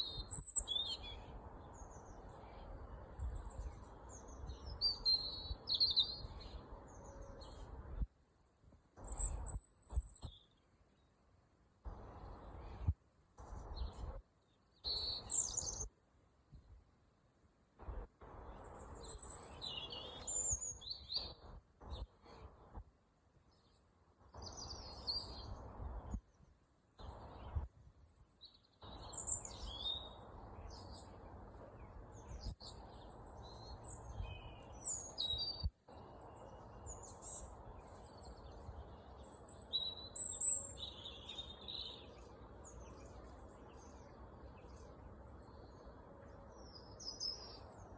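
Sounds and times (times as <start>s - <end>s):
wild birds chirping: 0.0s - 16.8s, 17.8s - 47.9s
low background hiss: 0.0s - 47.9s.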